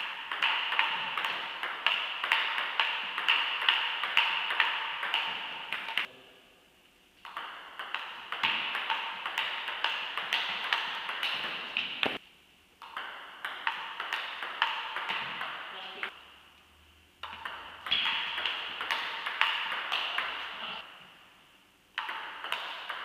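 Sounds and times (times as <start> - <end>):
table tennis ball hitting bats and table: 0.0 - 6.1, 7.2 - 12.2, 12.8 - 16.4, 17.2 - 21.0, 21.9 - 23.0.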